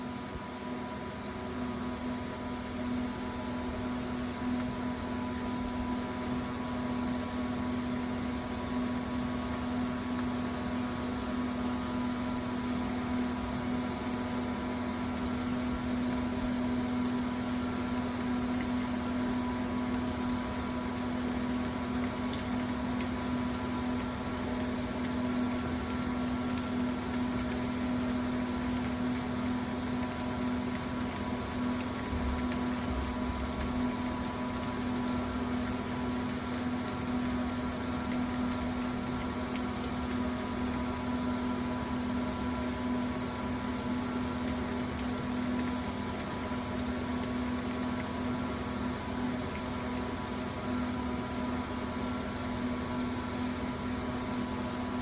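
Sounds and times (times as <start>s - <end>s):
steady low hum with hiss: 0.0s - 55.0s.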